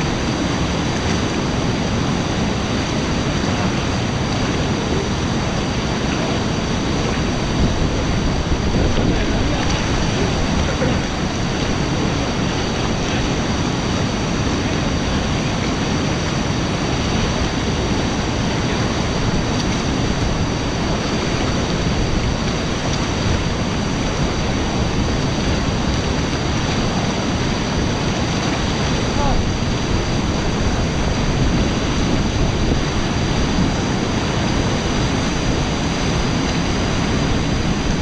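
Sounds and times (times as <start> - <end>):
river rapid rushing: 0.0 - 38.0.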